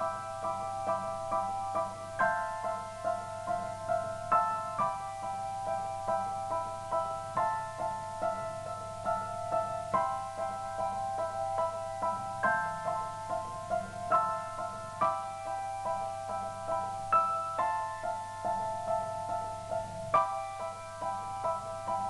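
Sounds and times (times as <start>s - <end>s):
slow gentle piano music: 0.0s - 22.0s.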